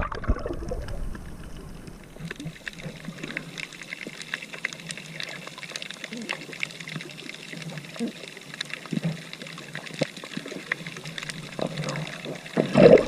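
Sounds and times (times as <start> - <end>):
sea water splashing: 0.0 - 13.0
small clicks and drips: 0.0 - 13.0.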